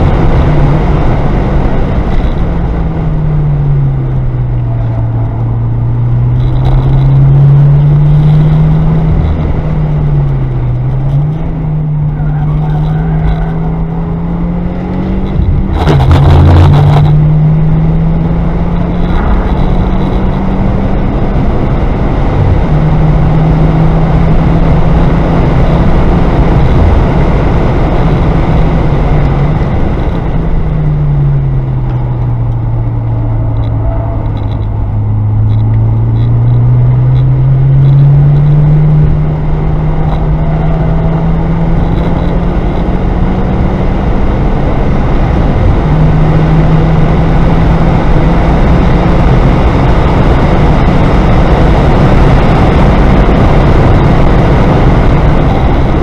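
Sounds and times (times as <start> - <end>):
car engine from inside cabin: 0.0 - 56.0
road and wind noise: 0.0 - 56.0.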